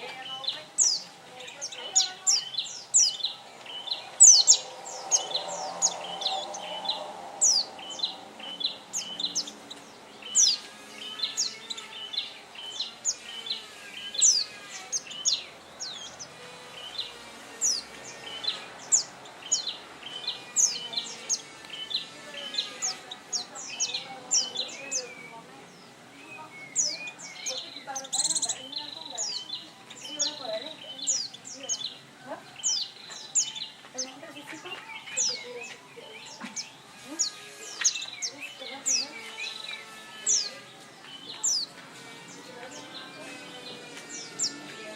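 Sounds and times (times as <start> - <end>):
bird chirping rapidly: 0.0 - 34.2, 34.9 - 44.7.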